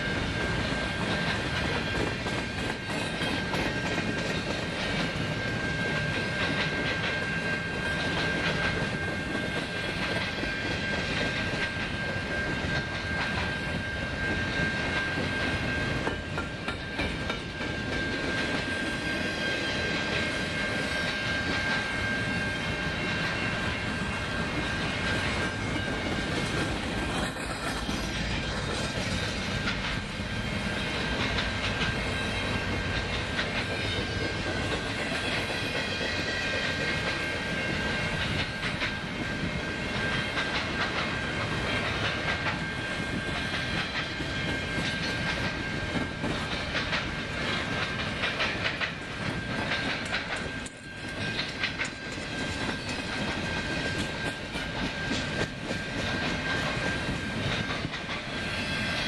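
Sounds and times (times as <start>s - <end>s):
train wheels clicking and rattling: 0.0s - 59.0s.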